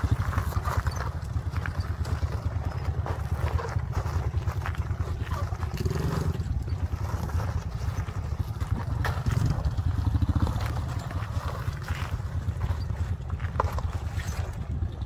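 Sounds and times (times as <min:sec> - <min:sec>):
motorcycle engine putting: 0:00.0 - 0:15.0
wheels knocking on loose rock: 0:00.0 - 0:15.0.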